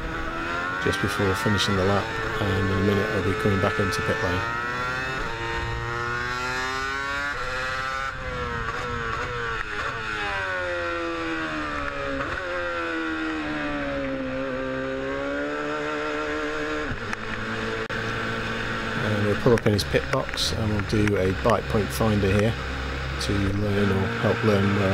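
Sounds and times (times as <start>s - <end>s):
racing car engine: 0.0s - 24.9s.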